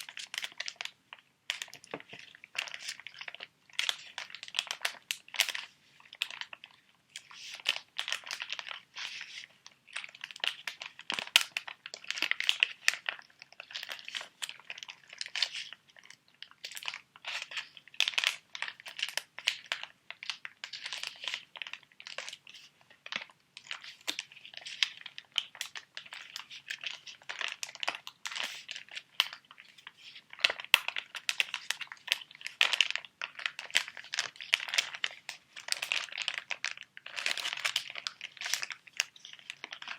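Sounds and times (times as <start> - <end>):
plastic packets crinkling: 0.0 - 39.9.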